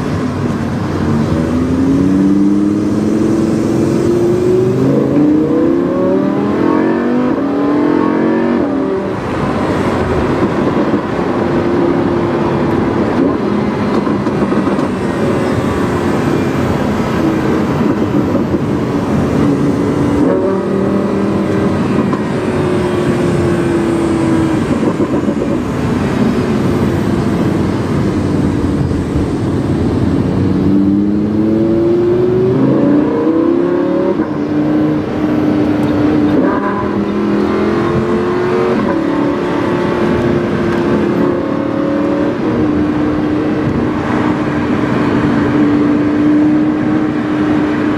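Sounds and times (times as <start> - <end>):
sports car engine accelerating: 0.0 - 47.9.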